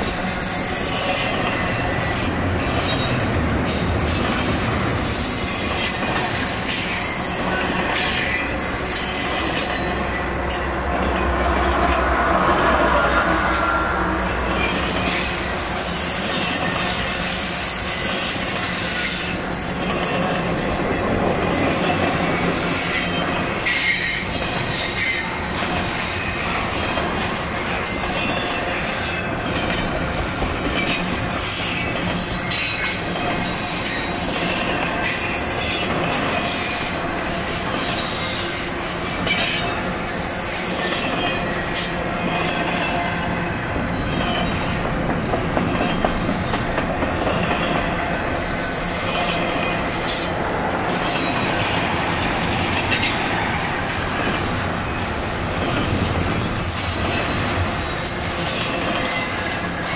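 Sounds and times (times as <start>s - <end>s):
clicks and clanks of rail cars: 0.0s - 59.9s
train wheels rolling on rail: 0.0s - 59.9s.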